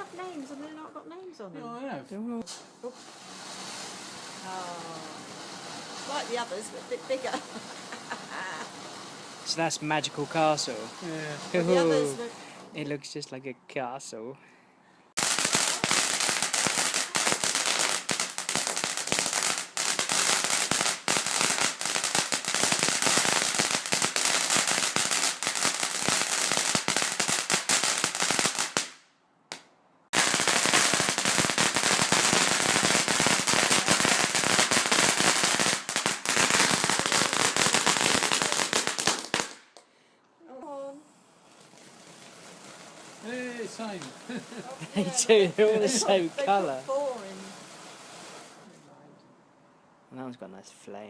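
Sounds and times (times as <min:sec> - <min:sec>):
firework fountain crackling: 0:00.0 - 0:01.1, 0:02.4 - 0:13.0, 0:15.1 - 0:29.0, 0:30.1 - 0:39.9, 0:40.7 - 0:48.8.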